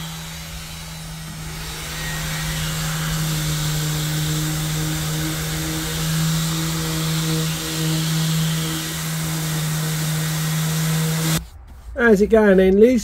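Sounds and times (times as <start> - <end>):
dust extractor humming: 0.0 - 11.4
orbital sander whining: 0.0 - 11.5.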